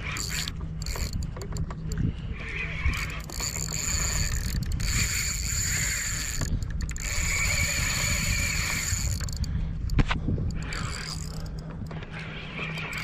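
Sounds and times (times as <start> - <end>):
fishing reel gears whining: 0.0 - 13.0.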